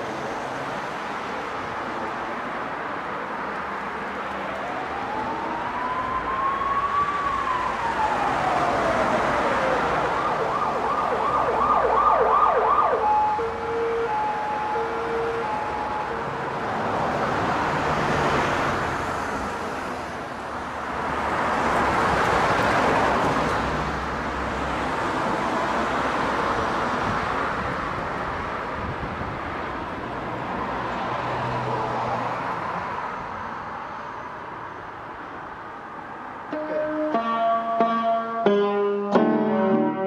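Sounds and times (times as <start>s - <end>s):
vehicles passing on road: 0.0s - 40.0s.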